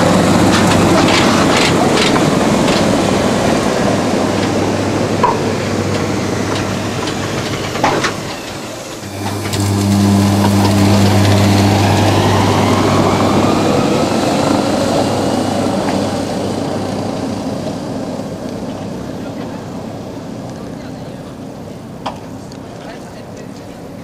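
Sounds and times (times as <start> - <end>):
electric train hum: 0.0 - 24.0
traction motors whine: 0.0 - 24.0.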